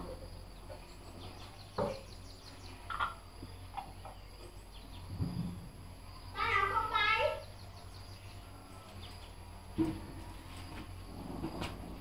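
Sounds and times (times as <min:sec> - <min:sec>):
birds chirping: 0:00.0 - 0:11.3
insects chirping: 0:00.0 - 0:12.0.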